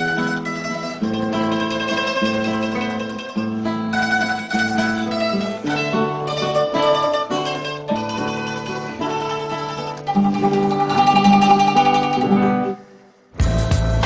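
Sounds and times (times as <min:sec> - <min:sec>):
guitar: 0:00.0 - 0:14.0
mandolin melody: 0:00.0 - 0:14.0.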